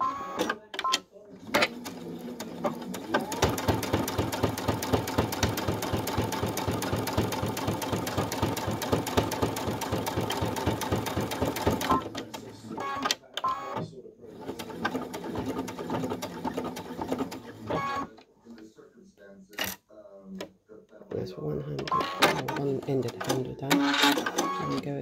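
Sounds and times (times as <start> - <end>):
sewing machine stitching: 0.0 - 18.2, 21.8 - 25.0.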